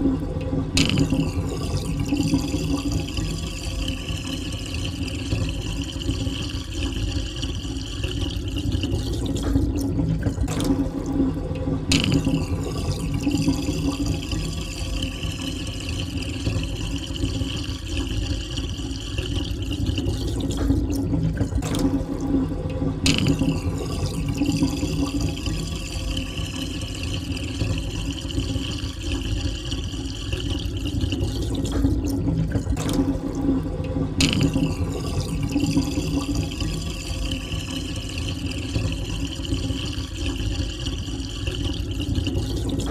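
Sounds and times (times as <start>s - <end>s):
water draining down a sink: 0.0s - 42.9s.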